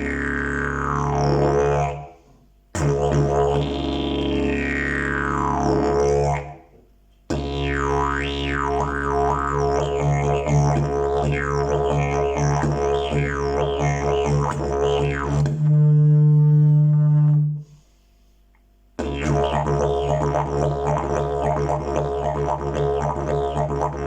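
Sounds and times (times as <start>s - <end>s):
didgeridoo drone: 0.0s - 2.1s, 2.8s - 6.6s, 7.3s - 17.6s, 19.0s - 24.0s.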